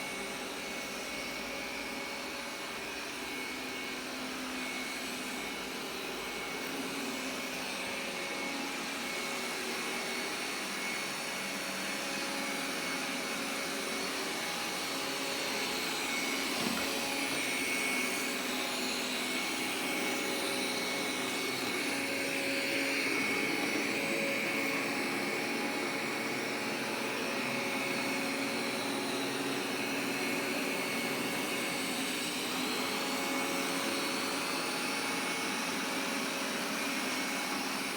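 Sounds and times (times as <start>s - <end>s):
vacuum cleaner whining: 0.0s - 37.9s.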